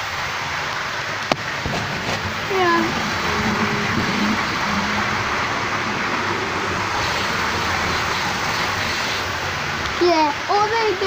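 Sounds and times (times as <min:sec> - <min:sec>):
model trains whirring and rattling: 0:01.3 - 0:11.0.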